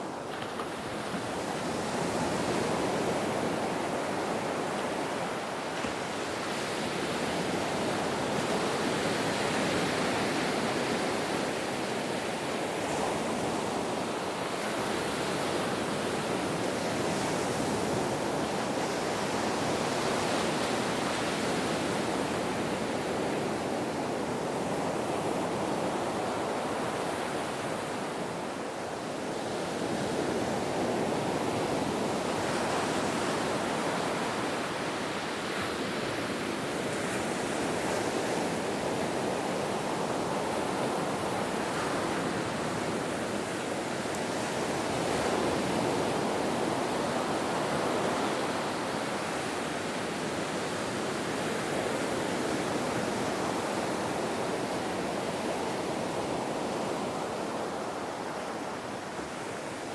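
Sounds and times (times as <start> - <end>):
ocean waves washing ashore: 0.0 - 59.9.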